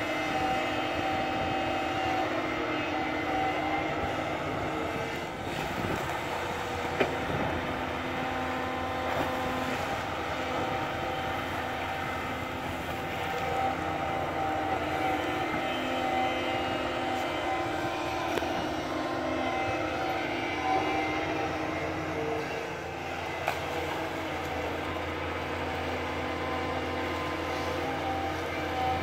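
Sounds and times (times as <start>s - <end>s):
excavator diesel engine whining: 0.0s - 29.0s.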